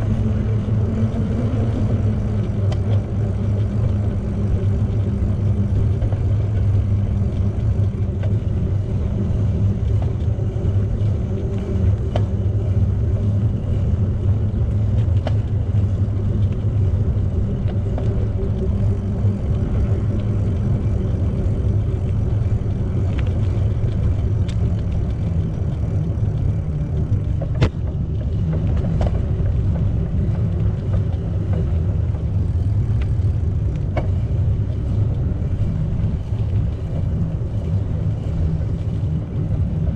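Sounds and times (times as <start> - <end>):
tyres rolling on pavement: 0.0 - 39.9
wind buffeting microphone: 0.0 - 39.9.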